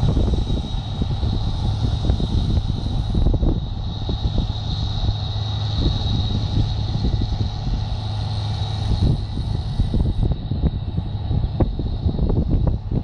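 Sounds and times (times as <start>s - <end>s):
combine harvester engine drone: 0.0s - 13.0s
high whine: 0.0s - 13.0s
low rumbling: 0.0s - 13.0s.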